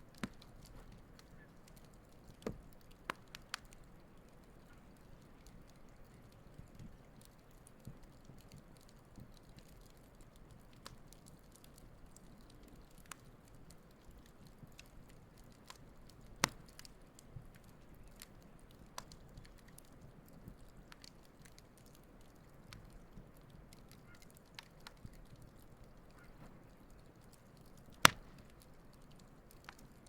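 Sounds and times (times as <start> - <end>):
campfire crackling and snapping: 0.0 - 30.0
flames rumbling softly: 0.0 - 30.0.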